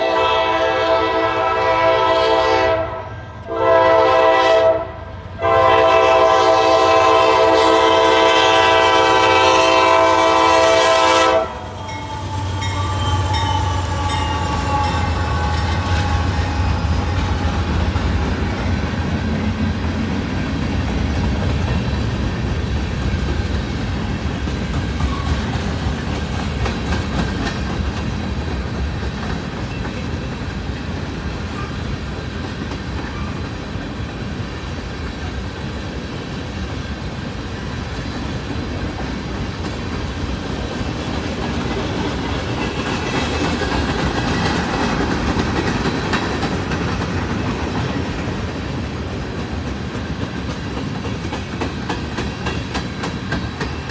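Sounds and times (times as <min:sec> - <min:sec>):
freight train cars clacking: 0:00.0 - 0:53.9.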